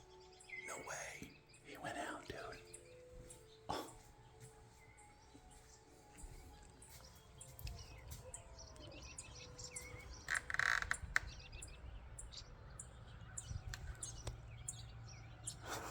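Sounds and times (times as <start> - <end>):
small bird chirping: 0.0 - 15.9.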